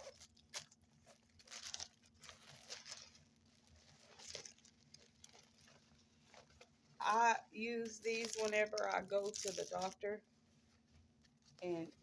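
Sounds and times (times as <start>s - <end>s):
plastic package crinkling: 0.0s - 12.0s.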